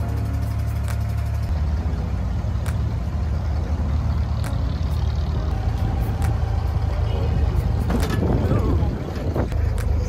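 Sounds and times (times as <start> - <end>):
boat diesel engine rumbling: 0.0 - 10.0.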